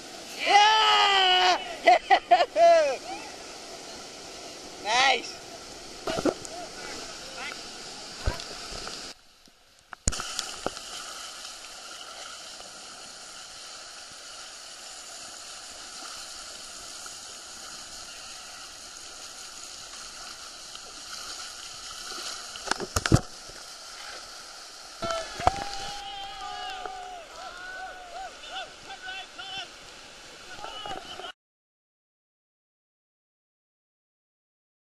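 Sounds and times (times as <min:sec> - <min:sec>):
river water flowing: 0:00.0 - 0:31.3.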